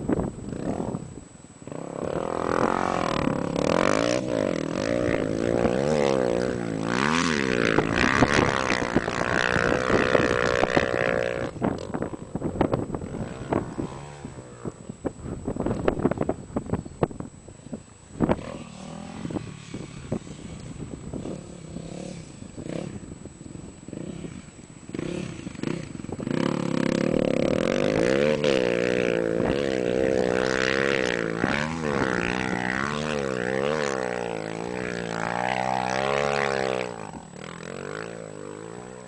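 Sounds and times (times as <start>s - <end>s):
dirt bike engine revving: 0.0s - 16.7s, 18.1s - 39.0s.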